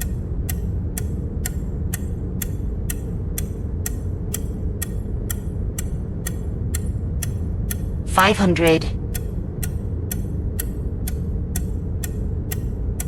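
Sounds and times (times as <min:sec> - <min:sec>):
low hum: 0:00.0 - 0:13.0
steady ticking clicks: 0:00.0 - 0:13.0.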